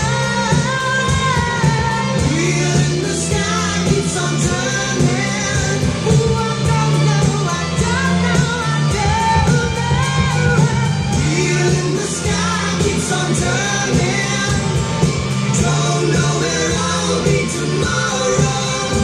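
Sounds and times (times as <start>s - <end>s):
person singing: 0.0s - 19.0s
steady drum beat: 0.0s - 19.0s.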